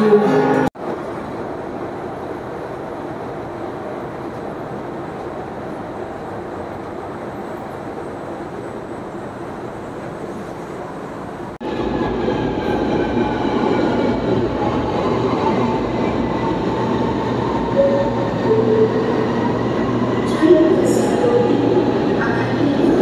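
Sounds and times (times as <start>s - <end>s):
metro train rumbling: 0.0s - 23.0s.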